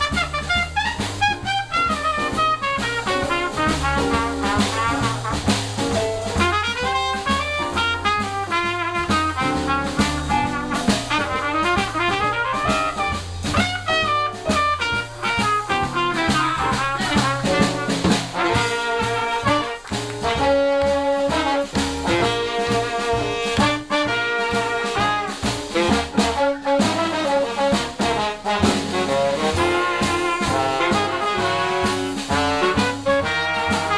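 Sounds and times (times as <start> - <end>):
drum kit: 0.0 - 33.9
saxophone: 0.0 - 33.9
trombone: 0.0 - 33.9
trumpet: 0.0 - 33.9
walking bass: 0.0 - 33.9.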